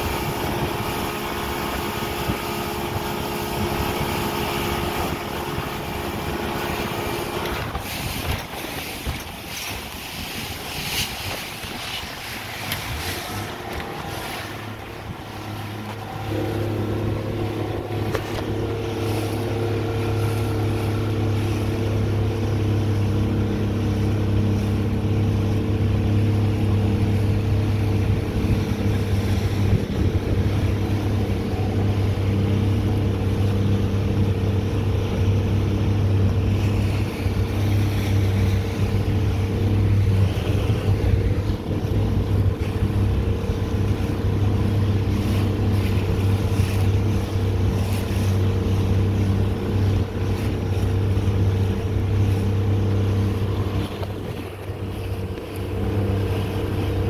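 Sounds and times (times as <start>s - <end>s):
motorboat engine droning: 0.0s - 57.0s
rushing water and wind: 0.0s - 57.0s.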